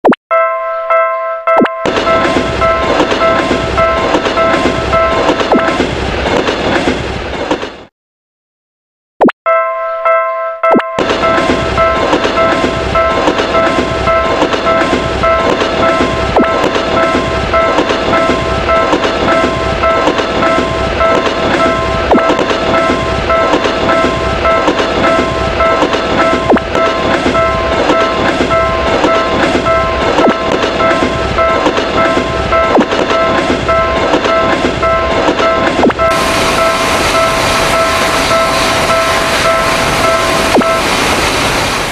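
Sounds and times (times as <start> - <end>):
crossing warning bell ringing: 0.3 - 5.9, 9.5 - 41.2
train wheels clickety-clack: 1.8 - 7.9, 11.0 - 41.9.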